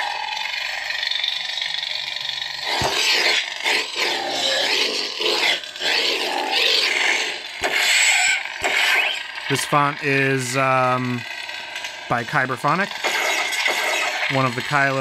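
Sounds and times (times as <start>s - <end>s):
crackling lightsaber hum: 0.0s - 15.0s.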